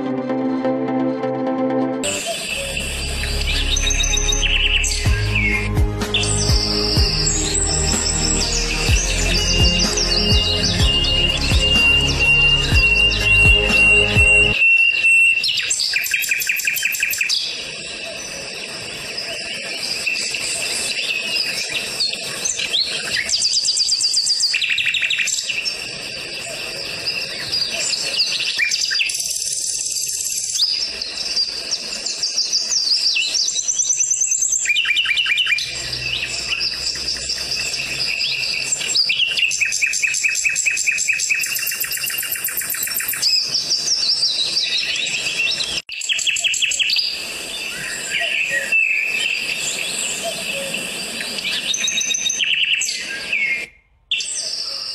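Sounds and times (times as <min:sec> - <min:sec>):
songbirds chirping and trilling: 0:02.0 - 0:54.9.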